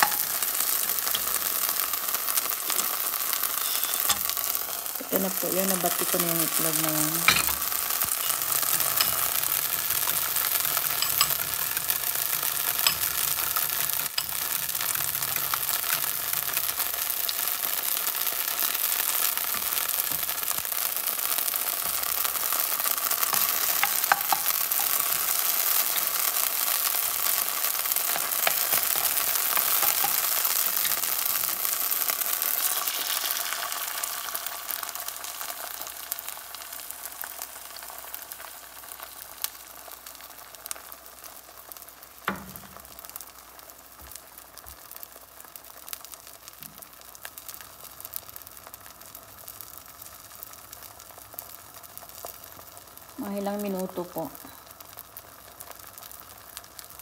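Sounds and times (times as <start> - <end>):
spring onions sizzling in oil: 0.0 - 57.0.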